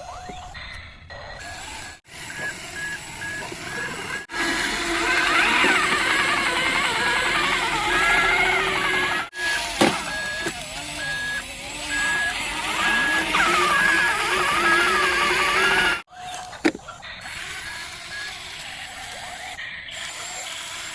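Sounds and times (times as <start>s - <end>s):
wavering tones: 0.0s - 20.6s
toy engine noise: 0.0s - 20.9s
toy truck reversing beep: 0.0s - 20.9s.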